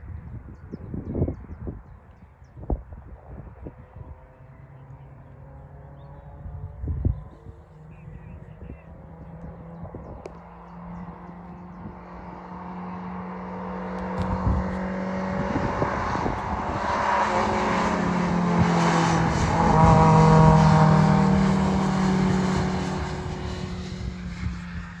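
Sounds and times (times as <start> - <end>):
race car engine passing: 4.4 - 25.0.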